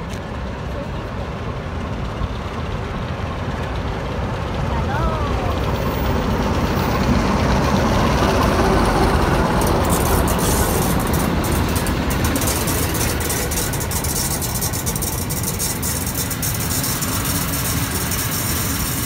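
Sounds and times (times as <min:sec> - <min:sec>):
diesel locomotive engine rumbling: 0:00.0 - 0:19.0
train wheels clicking on track: 0:00.0 - 0:19.0.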